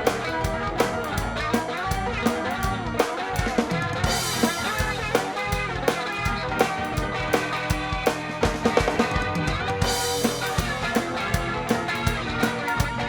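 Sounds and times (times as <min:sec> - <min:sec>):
driving drum kit beat: 0:00.0 - 0:13.0
guitar: 0:00.0 - 0:13.0
instrumental rock music: 0:00.0 - 0:13.0.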